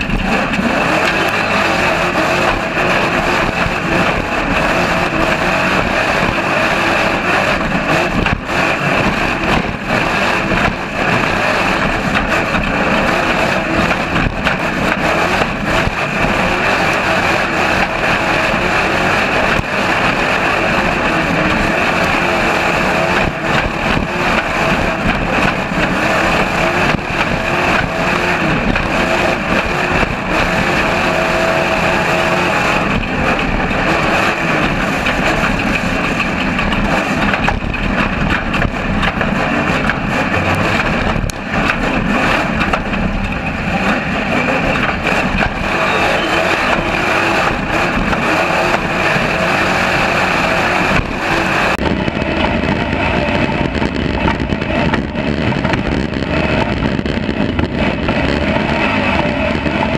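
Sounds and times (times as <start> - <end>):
truck engine and driveline rush: 0.0 - 59.9
wind: 0.0 - 59.9.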